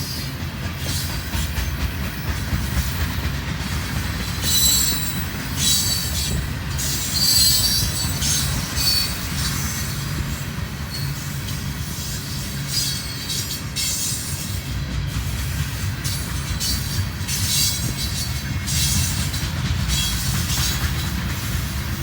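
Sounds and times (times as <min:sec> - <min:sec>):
freight train rumbling past: 0:00.0 - 0:22.0
train wheels squealing: 0:00.0 - 0:22.0.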